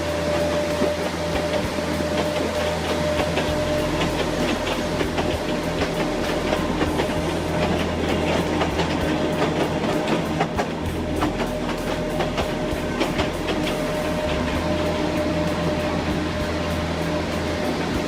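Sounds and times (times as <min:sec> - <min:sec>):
steady hum: 0:00.0 - 0:18.0
thin whine: 0:00.0 - 0:18.0
train rumble: 0:00.0 - 0:18.0
train wheels clicking on rail joints: 0:00.0 - 0:18.0.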